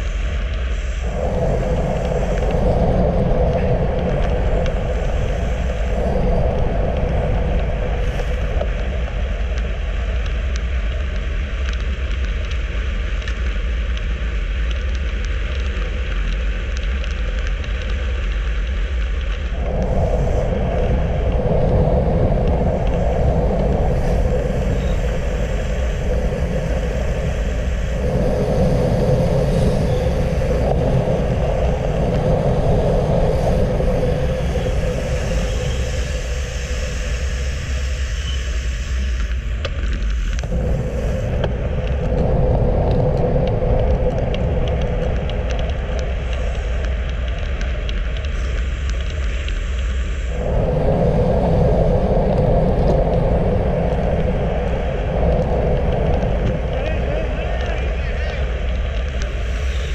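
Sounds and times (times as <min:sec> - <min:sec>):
steady hum: 0:00.0 - 0:59.9
tyre noise on asphalt: 0:00.0 - 0:59.9
wind rushing over microphone: 0:00.0 - 0:59.9.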